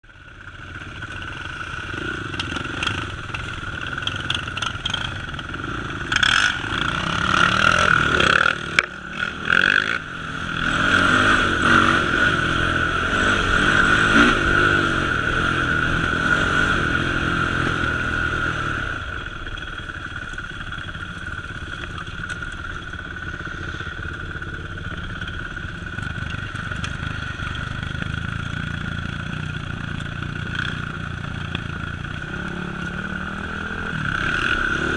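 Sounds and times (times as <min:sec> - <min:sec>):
atv engine revving: 0:00.3 - 0:34.9.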